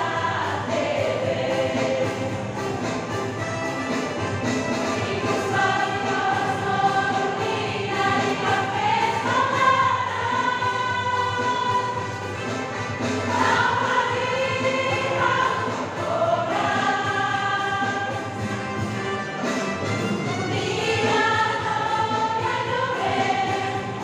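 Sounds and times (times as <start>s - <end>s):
women's choir singing: 0.0s - 3.2s, 4.8s - 18.5s, 20.5s - 24.0s.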